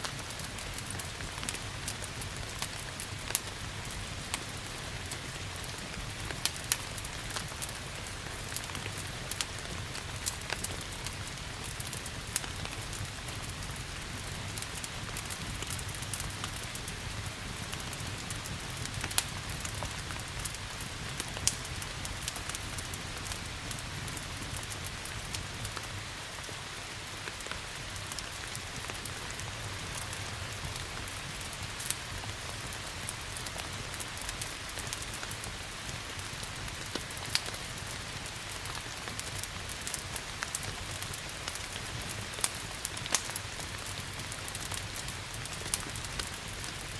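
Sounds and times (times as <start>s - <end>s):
steady rain: 0.0s - 46.9s
wood fire crackling: 0.0s - 46.9s.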